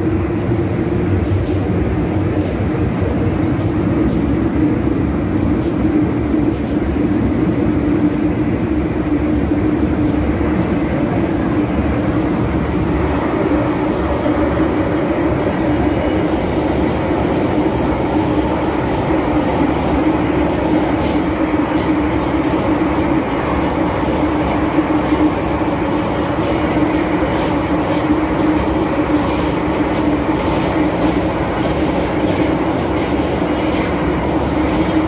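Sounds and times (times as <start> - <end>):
constant hum: 0.0 - 35.0
train wheels rumbling: 0.0 - 35.0.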